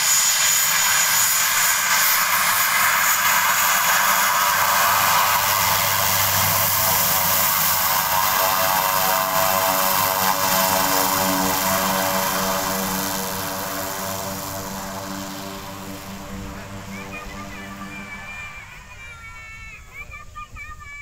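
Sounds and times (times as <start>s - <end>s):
high turbine whine: 0.0s - 21.0s
turboprop engine and propeller: 0.0s - 21.0s.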